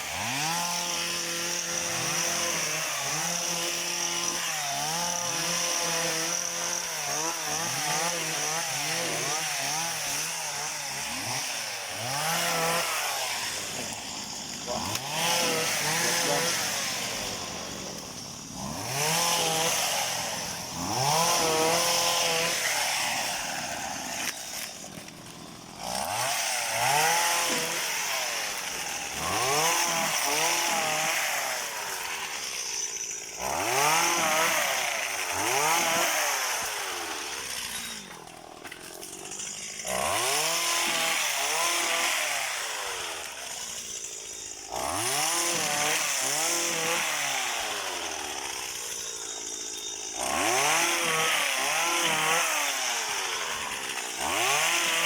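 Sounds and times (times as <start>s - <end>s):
small two-stroke engine revving: 0.0s - 14.0s, 14.6s - 24.4s, 25.8s - 32.2s, 33.3s - 38.1s, 39.3s - 43.4s, 44.7s - 55.0s.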